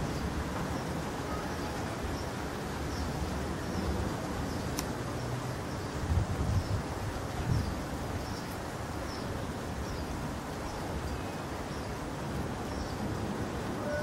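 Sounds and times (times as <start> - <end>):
outdoor hiss: 0.0 - 14.0
wind buffeting microphone: 0.0 - 14.0.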